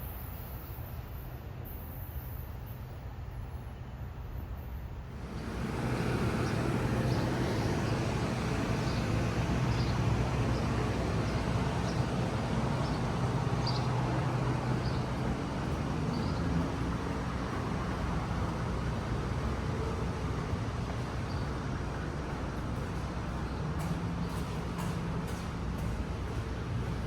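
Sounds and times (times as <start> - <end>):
train rumbling by: 0.0 - 27.0.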